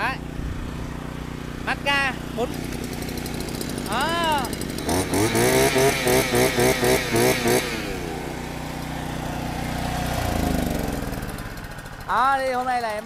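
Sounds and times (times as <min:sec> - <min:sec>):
motor vehicle passing: 0:00.2 - 0:12.3.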